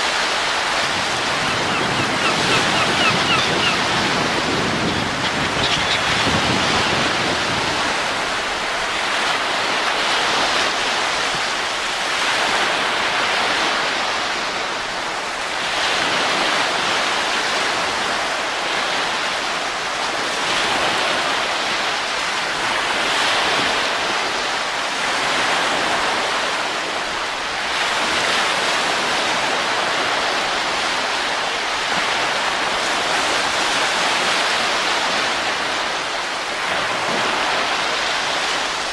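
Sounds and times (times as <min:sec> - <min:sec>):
rushing wind: 0:00.0 - 0:38.9.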